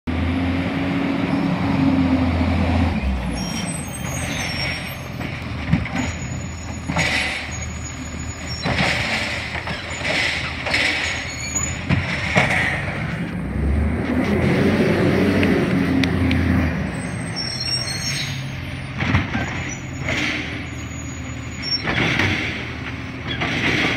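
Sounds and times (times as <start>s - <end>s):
garbage truck diesel engine: 0.1s - 23.9s.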